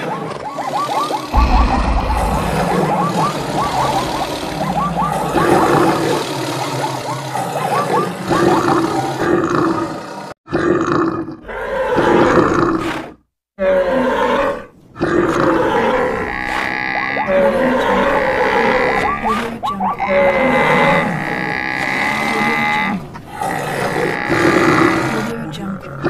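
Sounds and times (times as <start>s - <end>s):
animal calls and roars: 0.0s - 26.0s.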